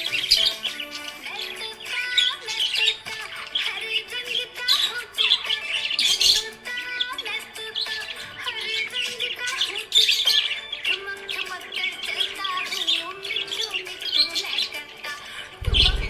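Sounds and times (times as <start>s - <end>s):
budgerigar chirping and warbling: 0.0s - 16.0s.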